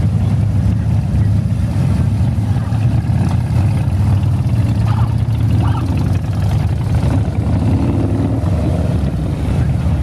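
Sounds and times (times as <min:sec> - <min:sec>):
motorcycle engines riding past: 0:00.0 - 0:10.0.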